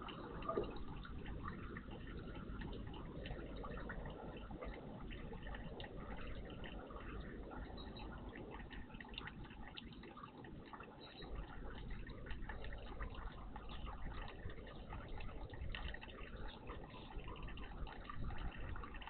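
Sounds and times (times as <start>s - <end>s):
water drips: 0.0s - 19.0s
water trickling and splashing: 0.0s - 19.0s.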